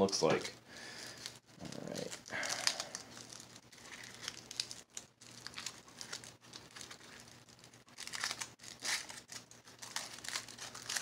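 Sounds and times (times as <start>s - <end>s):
aluminium foil crinkling: 0.2s - 11.0s.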